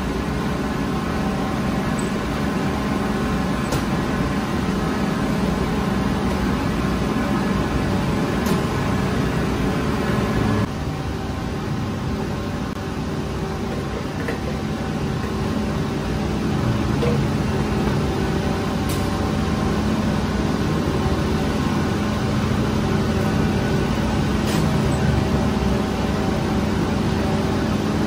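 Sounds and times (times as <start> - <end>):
bakery machinery drone: 0.0 - 28.0.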